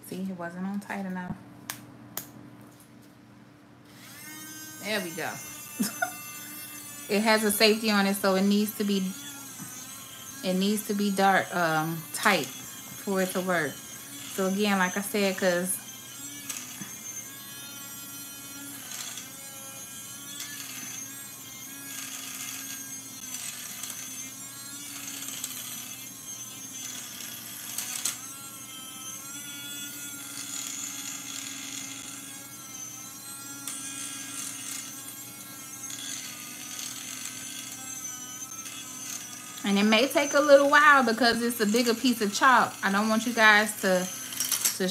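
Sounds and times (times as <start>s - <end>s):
electric grinder motor whirring: 3.9s - 44.9s.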